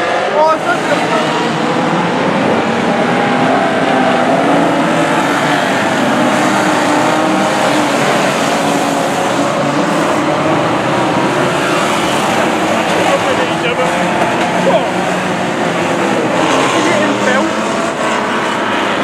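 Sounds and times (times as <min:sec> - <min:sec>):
racing car engines: 0:00.0 - 0:19.0.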